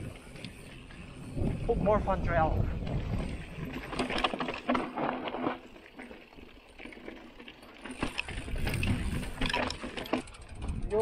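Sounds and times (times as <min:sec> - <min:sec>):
mountain bike rattling: 0:00.0 - 0:11.0.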